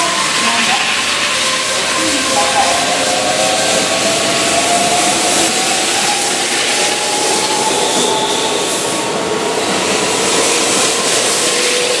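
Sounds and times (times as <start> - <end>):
train wheels rolling on rail: 0.0 - 12.0.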